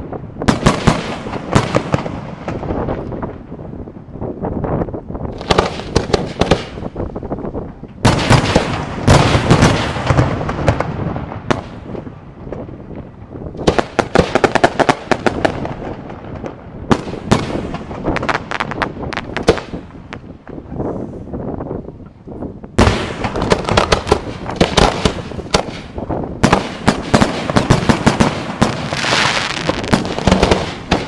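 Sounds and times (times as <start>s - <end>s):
fireworks bangs and crackling: 0.0s - 21.8s, 22.4s - 31.0s.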